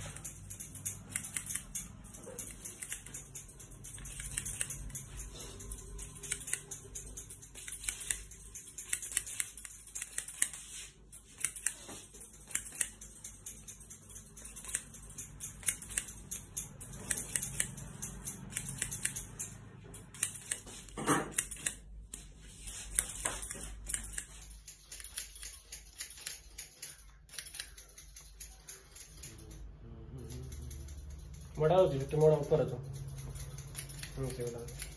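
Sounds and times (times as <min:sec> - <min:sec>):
scissors snipping hair: 0:00.0 - 0:34.9.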